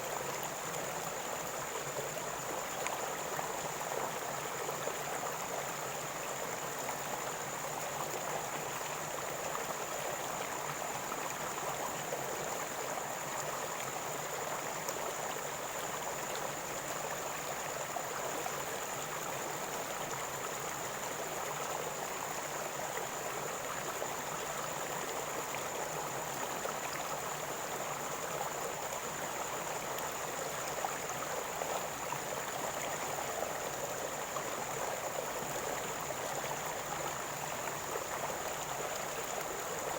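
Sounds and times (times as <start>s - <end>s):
river water gurgling: 0.0s - 39.9s.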